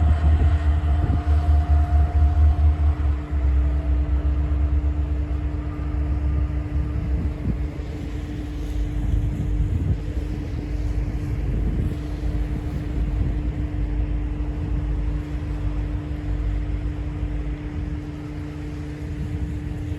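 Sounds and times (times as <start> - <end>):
diesel locomotive rumbling: 0.0 - 19.9.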